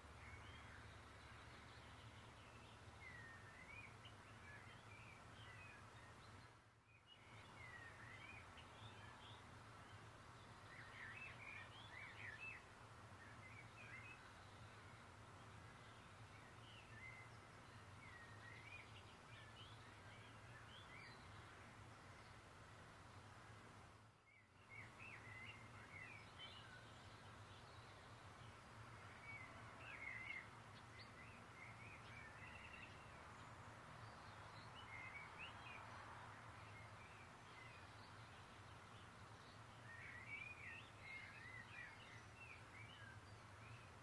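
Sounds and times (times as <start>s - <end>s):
background hiss and low hum: 0.0s - 44.0s
small birds chirping: 0.0s - 44.0s.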